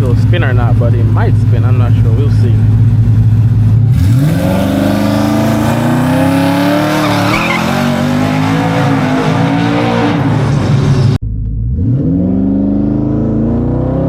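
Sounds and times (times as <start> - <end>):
pickup engine accelerating hard: 0.5 - 14.0.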